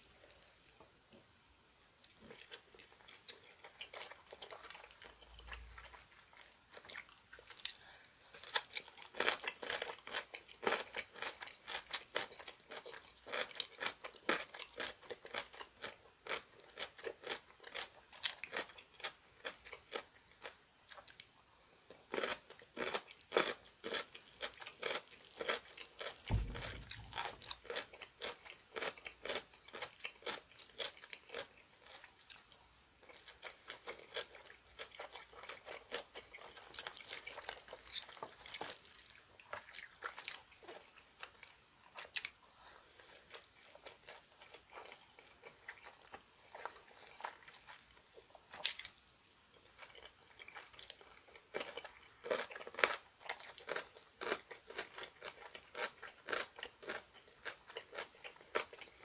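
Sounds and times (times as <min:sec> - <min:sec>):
person chewing with crunches: 0:00.0 - 0:00.9, 0:02.0 - 0:59.0.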